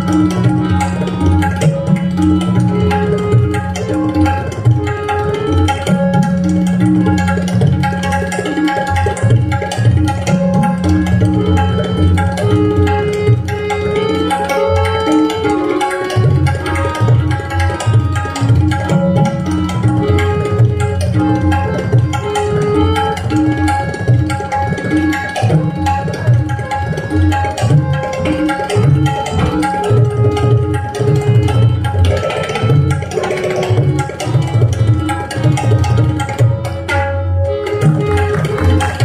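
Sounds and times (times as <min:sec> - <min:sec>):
harmonium melody: 0:00.0 - 0:39.0
tabla drumming: 0:00.0 - 0:39.0.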